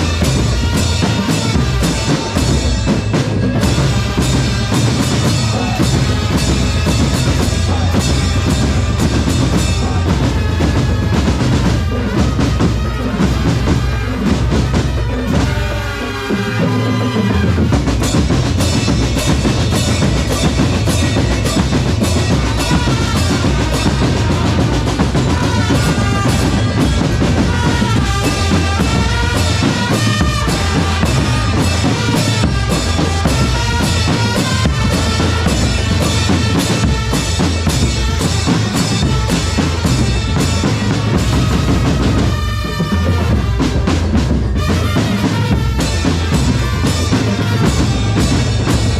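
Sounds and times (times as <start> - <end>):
bass and snare drums: 0.0 - 48.9.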